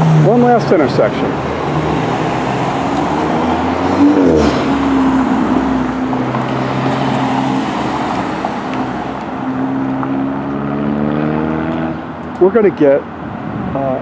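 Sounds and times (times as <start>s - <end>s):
tyre and street noise: 0.0s - 14.0s
vehicle engines humming: 0.0s - 14.0s.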